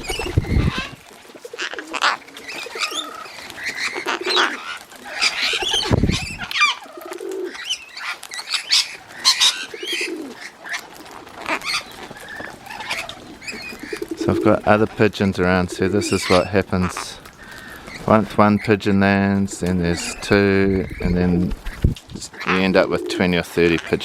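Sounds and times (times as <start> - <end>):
birds chirping and whistling: 0.0 - 24.0
pigeons cooing: 0.0 - 24.0.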